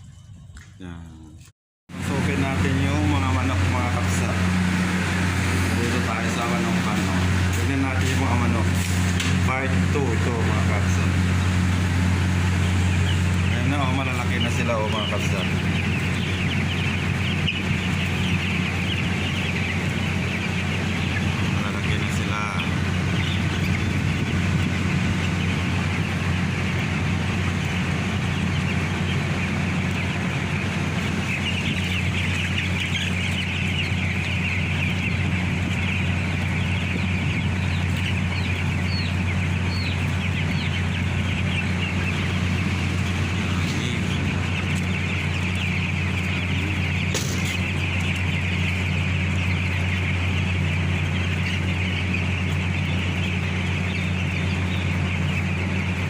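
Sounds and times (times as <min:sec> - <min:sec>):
chickens chirping and clucking: 0:00.0 - 0:56.0
low machine hum: 0:00.0 - 0:56.0.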